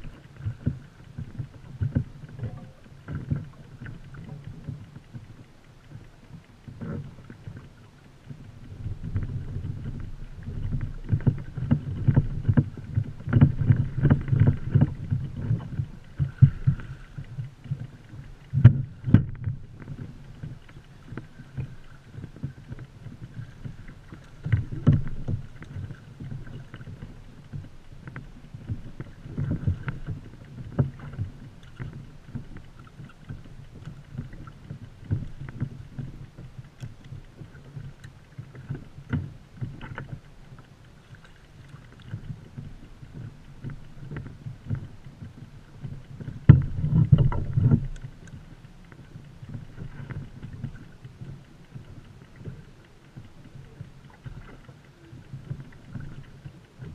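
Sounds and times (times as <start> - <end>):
water slapping against kayak hull: 0.0 - 56.9
wind rumble on microphone: 0.0 - 56.9.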